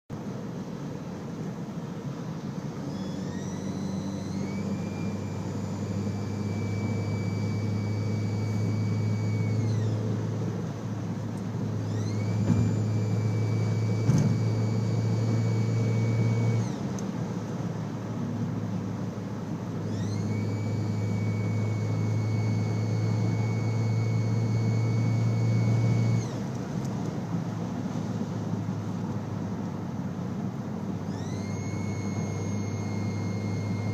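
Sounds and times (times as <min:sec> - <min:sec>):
engine hum: 0:00.1 - 0:33.9
high turbocharger whine: 0:00.1 - 0:33.9.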